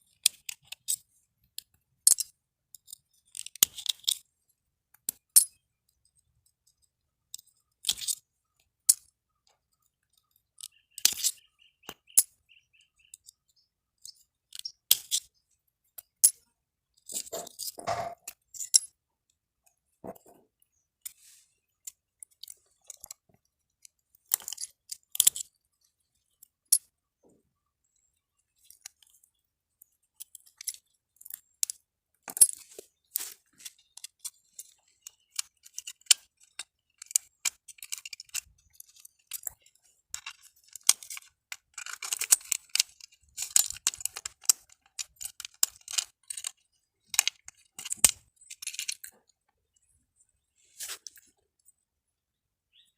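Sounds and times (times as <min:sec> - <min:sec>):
small parts clicking and scraping: 0:00.0 - 0:51.8.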